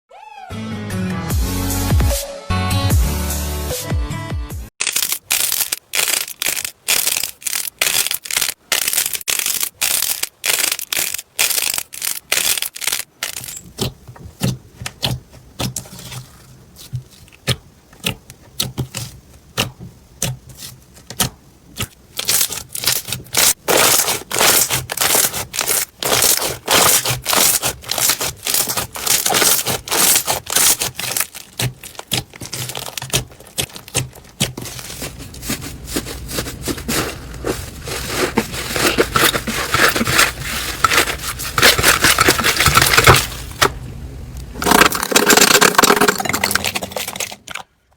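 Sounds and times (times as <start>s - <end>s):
slime crackling and popping: 4.8s - 43.7s.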